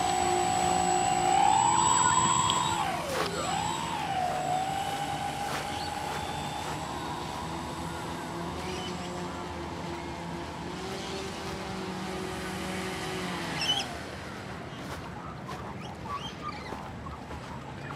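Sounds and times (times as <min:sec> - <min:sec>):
model airplane propellers droning: 0:00.0 - 0:17.9.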